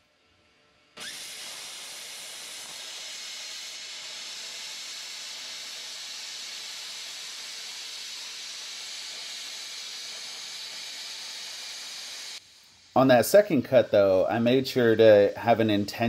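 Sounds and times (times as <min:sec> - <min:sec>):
plasma cutter hissing: 0:00.0 - 0:16.0.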